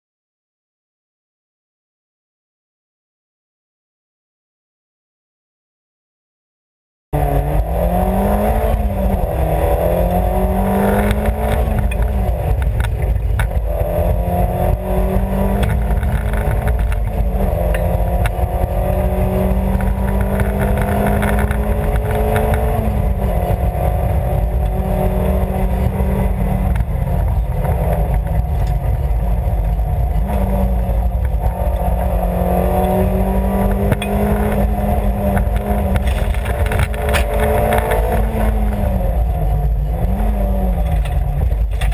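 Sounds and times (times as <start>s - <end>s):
rally car engine revving: 7.2s - 41.9s
road and mechanical rumble: 7.2s - 41.9s.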